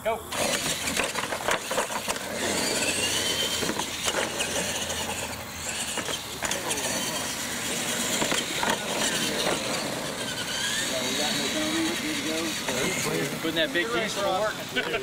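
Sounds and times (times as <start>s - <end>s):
rc truck motors whining: 0.3s - 15.0s.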